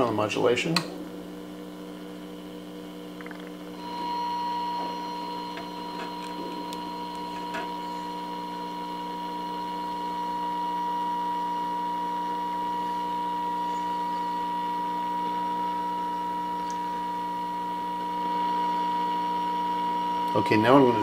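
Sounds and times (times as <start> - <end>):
steady hum: 0.0 - 21.0
high test tone from speaker: 3.2 - 21.0.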